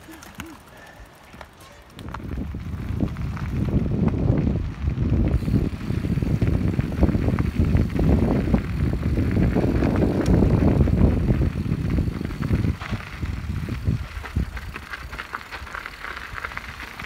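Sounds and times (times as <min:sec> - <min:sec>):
bike rattling over bumps: 0:00.0 - 0:17.0
bike tyres rumbling on gravel: 0:00.0 - 0:17.0.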